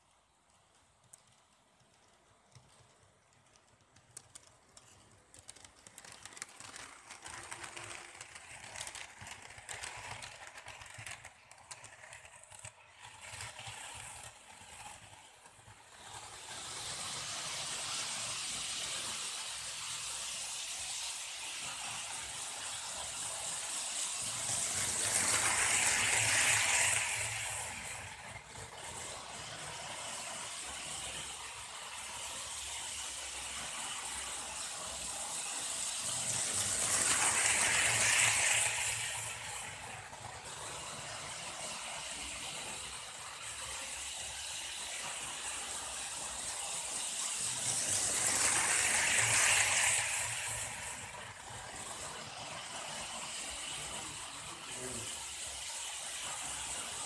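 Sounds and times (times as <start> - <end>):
model train running on track: 0.0 - 57.0.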